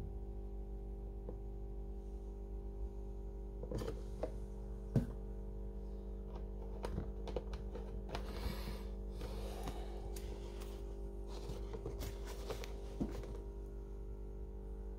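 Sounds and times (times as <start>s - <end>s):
steady hum: 0.0s - 14.9s.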